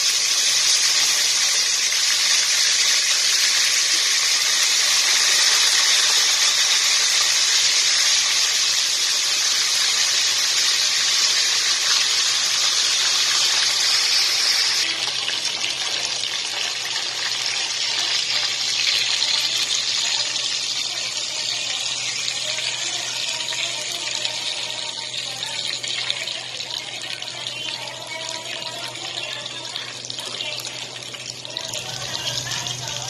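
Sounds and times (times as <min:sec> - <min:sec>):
chicken sizzling in oil: 0:00.0 - 0:33.0.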